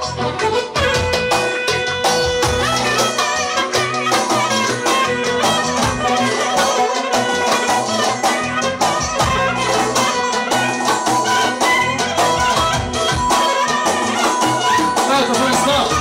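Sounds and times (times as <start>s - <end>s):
lively music with drum beat: 0.0s - 16.0s.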